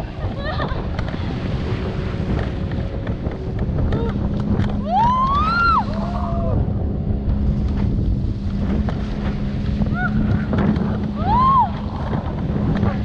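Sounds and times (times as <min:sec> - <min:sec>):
steady low hum: 0:00.0 - 0:13.0
water rushing: 0:00.0 - 0:13.0
wind buffeting microphone: 0:00.0 - 0:13.0.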